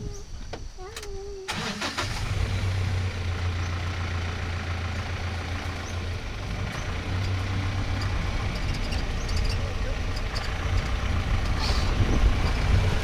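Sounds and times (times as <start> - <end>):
vehicle engine idling: 1.5 - 13.0.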